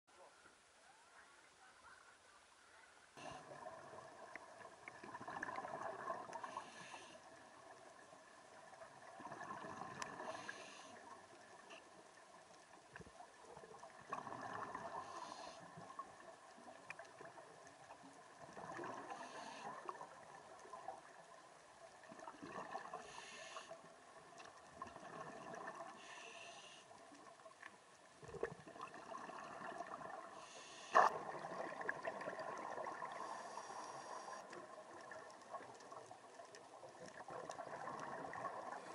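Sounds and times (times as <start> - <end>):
exhaled bubbles gurgling underwater: 3.2 - 38.9.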